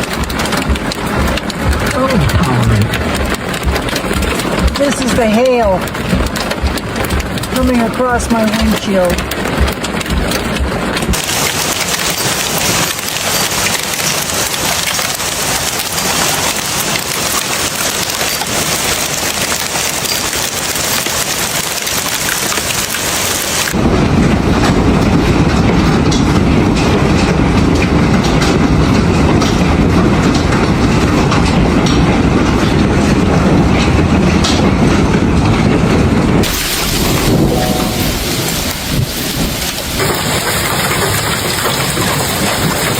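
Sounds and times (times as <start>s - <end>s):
hailstones pelting a car: 0.0s - 42.9s.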